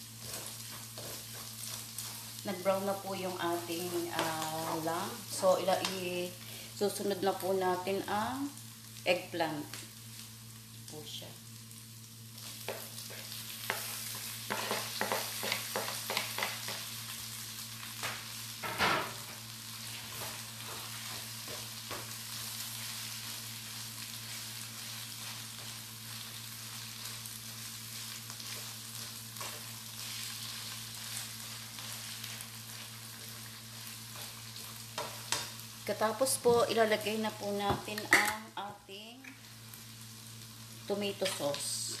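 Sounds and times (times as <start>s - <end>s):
food sizzling in a wok: 0.0s - 42.0s.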